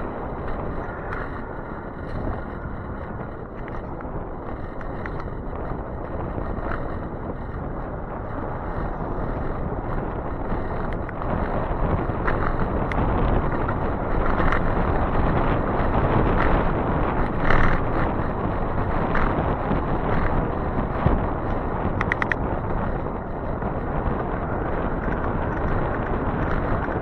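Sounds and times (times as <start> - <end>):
road noise: 0.0 - 27.0
wind on microphone: 0.0 - 27.0.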